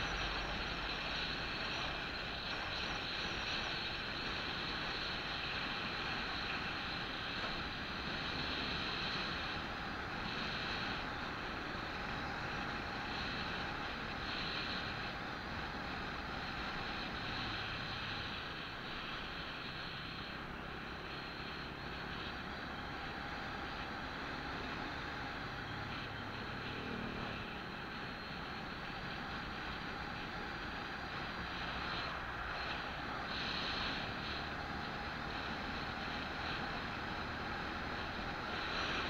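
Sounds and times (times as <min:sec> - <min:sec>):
low engine hum: 0:00.0 - 0:39.0
wind and road noise: 0:00.0 - 0:39.0.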